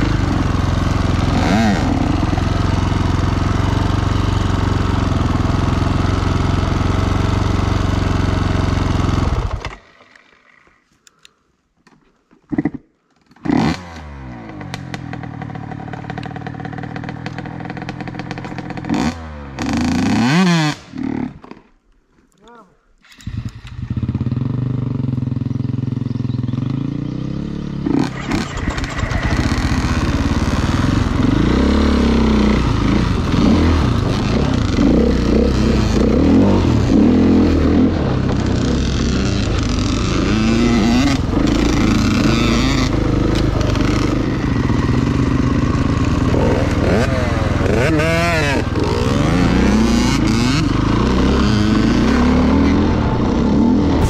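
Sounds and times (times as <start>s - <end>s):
motorcycle engine revving: 0.0s - 10.7s, 12.5s - 21.6s, 23.1s - 54.0s.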